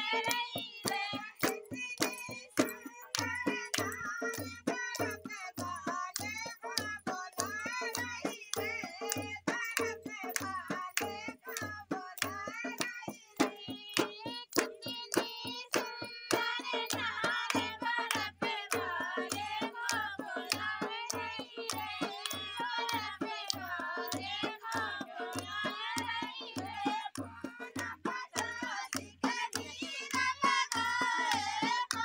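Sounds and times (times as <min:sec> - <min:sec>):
steady dholak beat: 0:00.0 - 0:32.0
women singing a folk song: 0:00.0 - 0:32.0.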